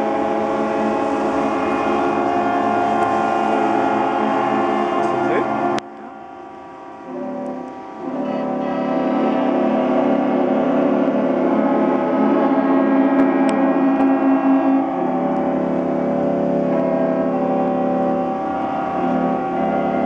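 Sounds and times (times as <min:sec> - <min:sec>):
ship horns sounding together: 0:00.0 - 0:20.0.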